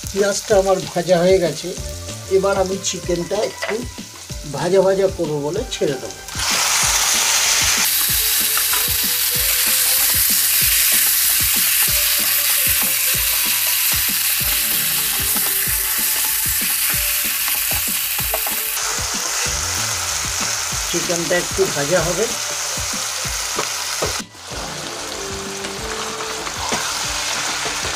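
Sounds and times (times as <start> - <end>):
chicken sizzling in hot oil: 0.0 - 27.9.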